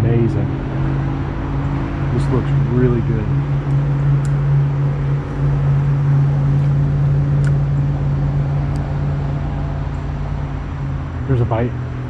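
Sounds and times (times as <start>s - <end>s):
road traffic drone: 0.0s - 12.0s.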